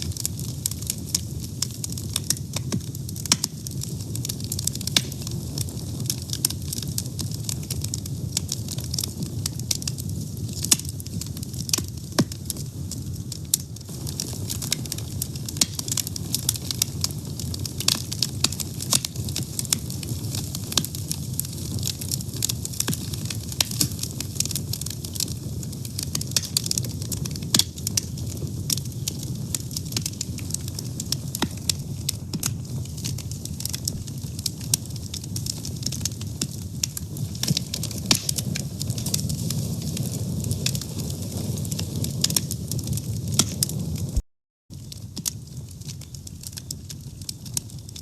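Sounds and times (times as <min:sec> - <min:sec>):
fire crackling and popping: 0:00.0 - 0:48.0
low fire rumble: 0:00.0 - 0:48.0.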